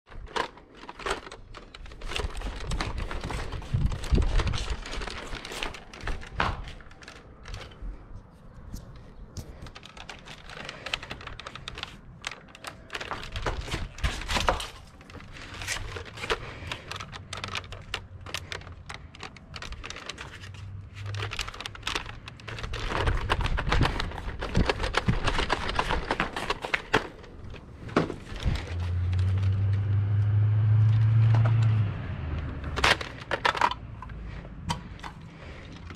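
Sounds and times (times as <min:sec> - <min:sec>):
plastic toy blaster clicks and rattles: 0:00.1 - 0:07.9, 0:09.4 - 0:29.8, 0:30.9 - 0:35.9.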